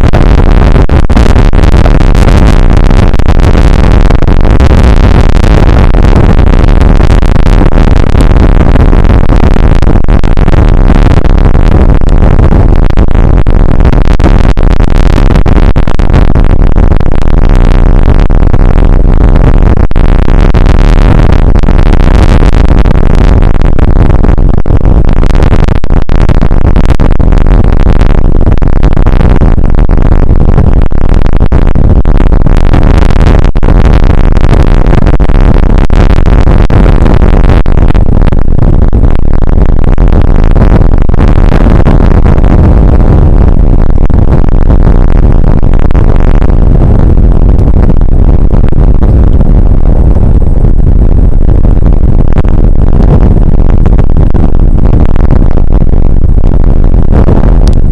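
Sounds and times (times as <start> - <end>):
loud distorted noise: 0.0 - 57.9.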